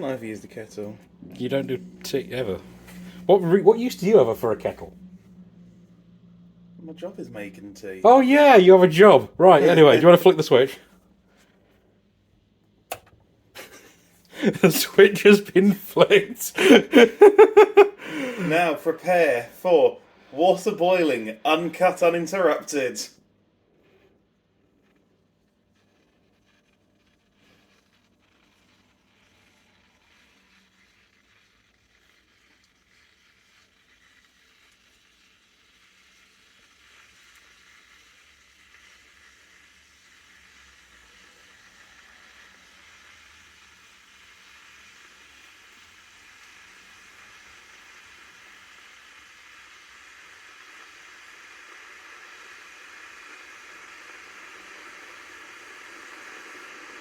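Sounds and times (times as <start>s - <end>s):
electric kettle hissing: 0.0s - 23.1s, 23.8s - 57.0s.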